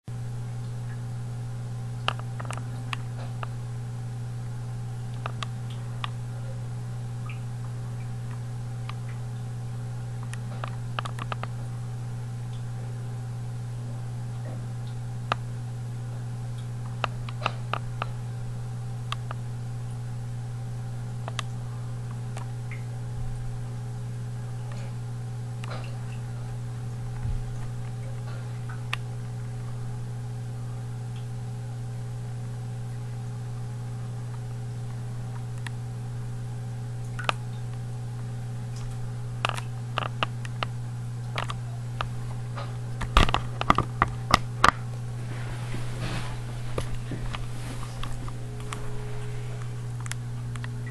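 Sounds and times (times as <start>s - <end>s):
aquarium pump hum: 0.1s - 50.9s.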